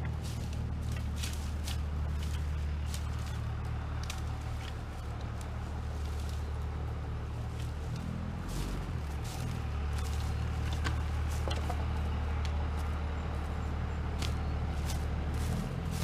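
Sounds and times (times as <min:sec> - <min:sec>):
truck engine humming: 0:00.0 - 0:16.0.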